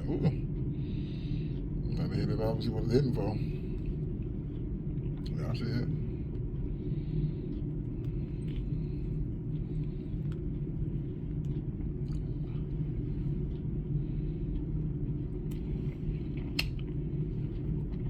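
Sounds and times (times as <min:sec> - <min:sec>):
low engine rumble: 0:00.0 - 0:18.0
faint chewing clicks: 0:02.6 - 0:18.0.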